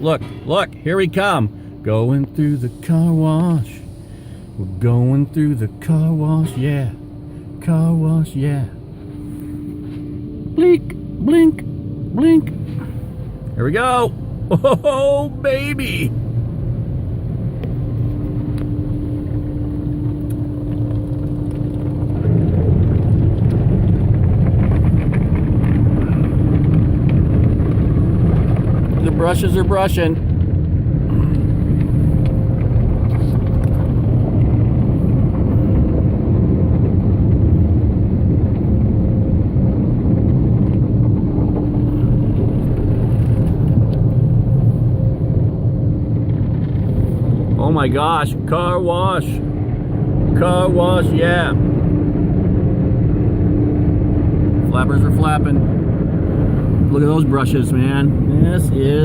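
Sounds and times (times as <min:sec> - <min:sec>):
motor hum: 0:00.0 - 0:58.8
car wash machinery rumble: 0:00.0 - 0:59.0.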